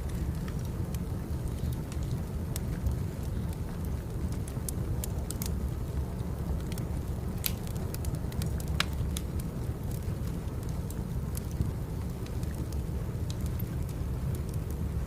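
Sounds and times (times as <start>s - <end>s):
fire crackles and pops: 0.0s - 15.0s
firewood burning rumble: 0.0s - 15.0s.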